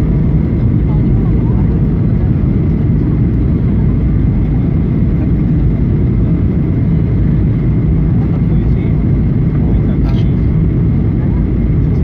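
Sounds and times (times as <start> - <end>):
jet engines and rushing air: 0.0 - 12.0.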